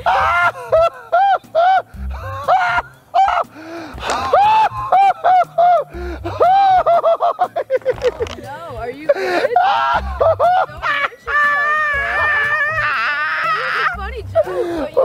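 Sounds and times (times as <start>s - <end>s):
man laughing in falsetto: 0.0s - 8.4s, 9.1s - 15.0s.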